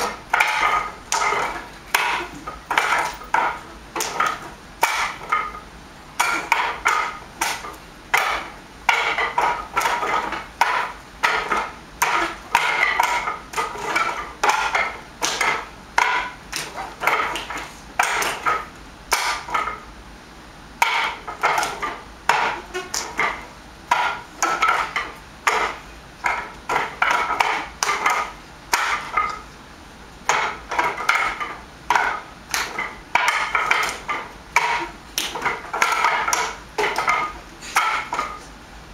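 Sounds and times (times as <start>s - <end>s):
hard wooden knocks and clacks: 0.0s - 5.6s, 6.2s - 19.8s, 20.8s - 29.5s, 30.3s - 38.4s.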